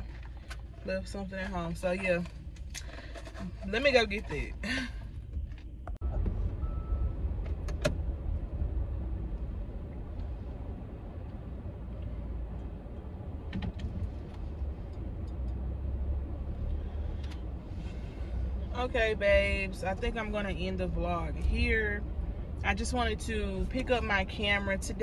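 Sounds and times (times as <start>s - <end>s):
car engine rumble inside cabin: 0.0s - 25.0s.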